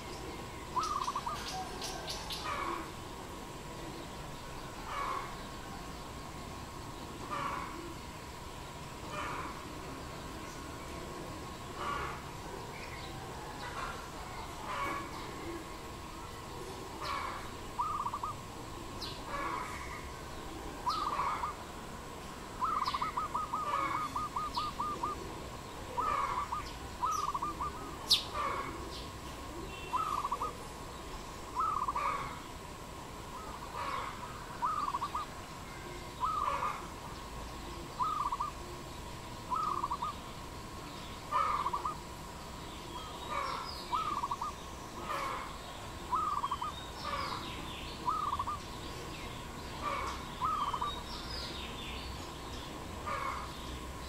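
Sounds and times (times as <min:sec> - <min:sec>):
small birds chirping: 0:00.0 - 0:02.9, 0:03.8 - 0:21.6, 0:22.6 - 0:54.0
dove cooing: 0:00.0 - 0:03.9, 0:07.2 - 0:08.2, 0:09.0 - 0:32.5, 0:33.2 - 0:40.3, 0:41.2 - 0:42.3, 0:43.0 - 0:51.0, 0:53.0 - 0:53.5
faint steady tone: 0:00.0 - 0:54.0.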